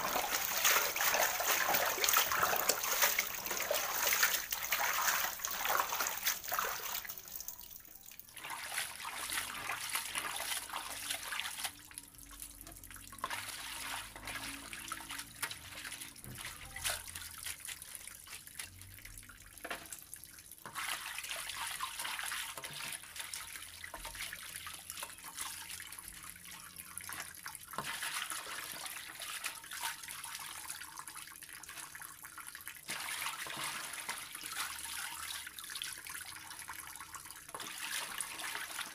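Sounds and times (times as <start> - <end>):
splashing and sloshing water: 0.0 - 38.9
water pouring into a tub: 0.0 - 38.9.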